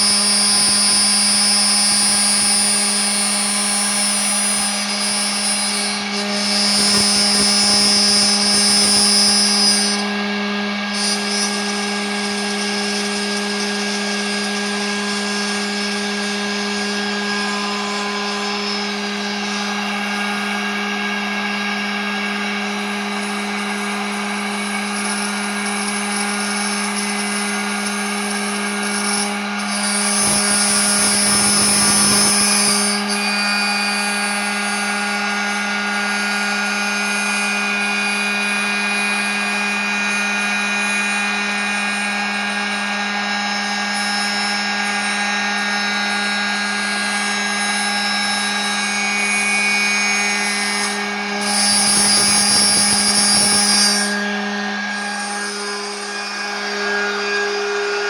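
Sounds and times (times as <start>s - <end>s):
cutter milling wood: 0.0s - 58.0s
router spindle whine: 0.0s - 58.0s.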